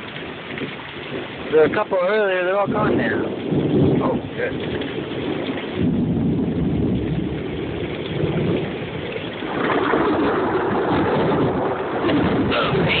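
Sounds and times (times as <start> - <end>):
heavy rain pouring: 0.0 - 13.0
low rumble: 2.6 - 13.0.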